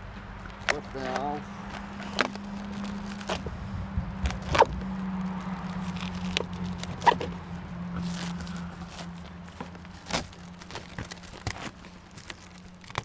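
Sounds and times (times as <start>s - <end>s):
plastic wrap crinkling and tearing: 0.5s - 3.5s, 4.2s - 7.3s, 8.0s - 13.0s.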